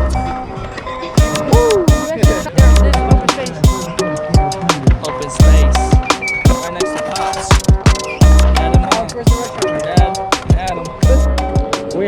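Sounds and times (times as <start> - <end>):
hip hop beat with deep bass kicks: 1.2 - 12.0.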